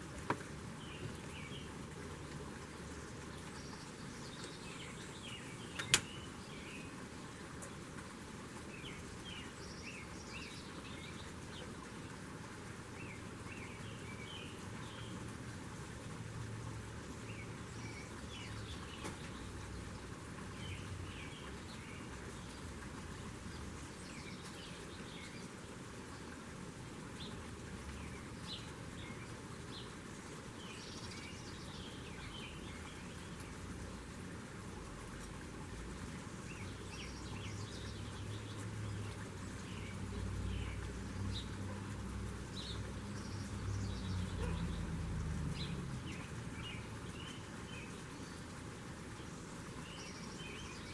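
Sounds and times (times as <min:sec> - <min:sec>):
outdoor background hiss: 0:00.0 - 0:50.9
small birds chirping: 0:00.1 - 0:16.2, 0:16.9 - 0:50.9.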